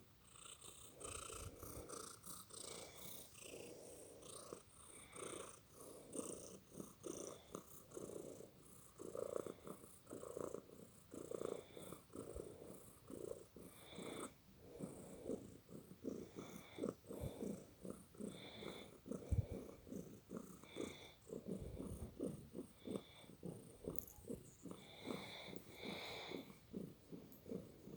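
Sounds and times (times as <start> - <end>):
cat snoring: 0.2 - 27.9.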